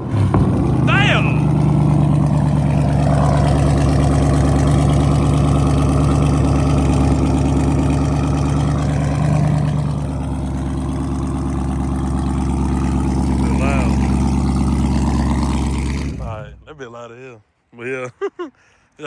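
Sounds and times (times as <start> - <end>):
engine idling with deep rumble: 0.0 - 16.9.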